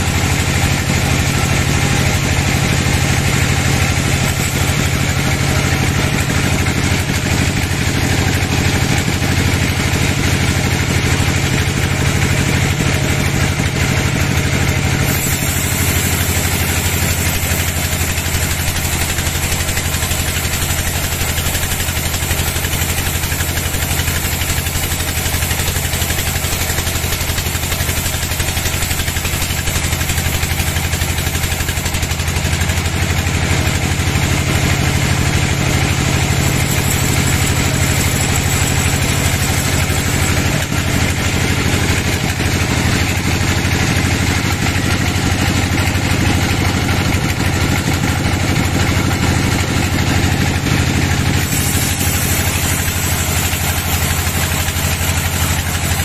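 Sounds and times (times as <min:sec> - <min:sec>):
band saw blade sawing log: 0:00.0 - 0:56.0.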